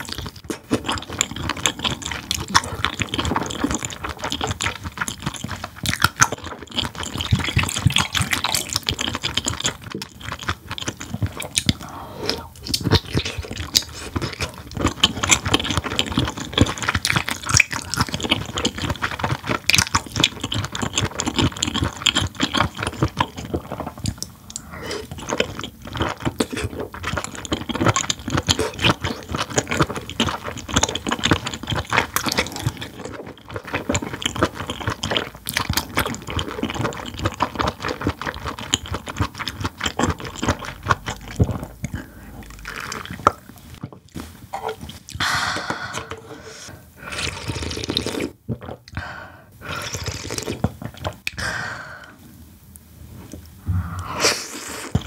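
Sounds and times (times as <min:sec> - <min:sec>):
wet chewing mouth clicks: 0:00.0 - 0:49.0, 0:53.3 - 0:55.0.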